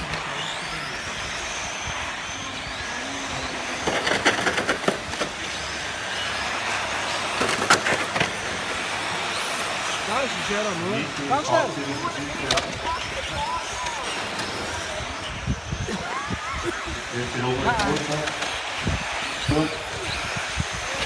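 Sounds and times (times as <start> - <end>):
model truck motors whining: 0.0 - 21.0.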